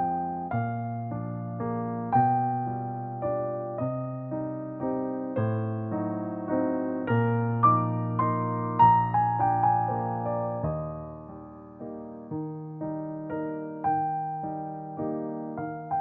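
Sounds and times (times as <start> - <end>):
electric piano slow chords: 0.0 - 16.0.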